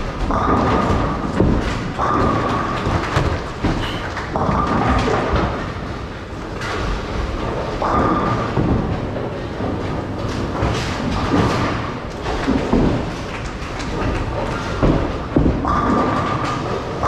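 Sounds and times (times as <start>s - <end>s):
balls and pins clattering: 0.0s - 17.0s
bowling balls rolling: 0.0s - 17.0s.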